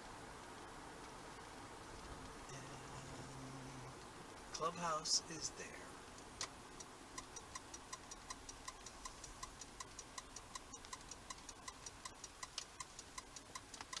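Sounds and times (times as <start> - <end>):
car turn signal ticking: 1.8 - 14.0.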